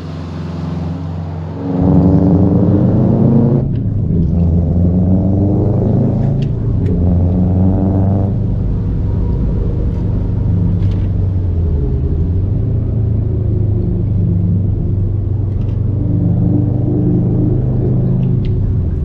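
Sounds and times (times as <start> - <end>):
car exhaust note cruising: 0.0 - 19.0.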